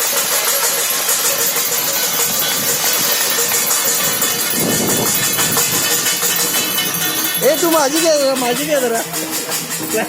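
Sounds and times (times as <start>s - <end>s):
metallic jingling: 0.0s - 10.0s.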